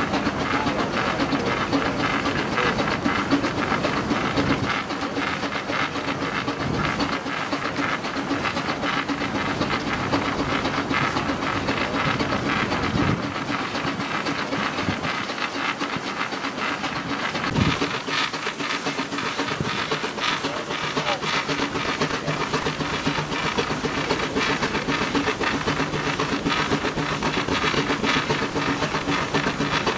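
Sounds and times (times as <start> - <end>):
steam engine exhaust beats: 0.0 - 29.9
steam hissing: 0.0 - 29.9.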